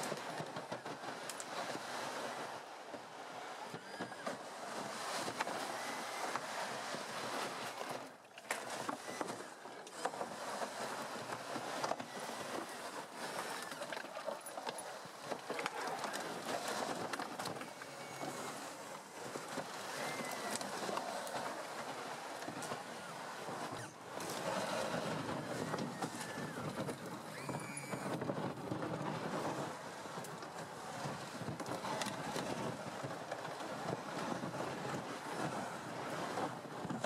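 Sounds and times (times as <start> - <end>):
rubber tracks grinding over snow: 0.0 - 37.0.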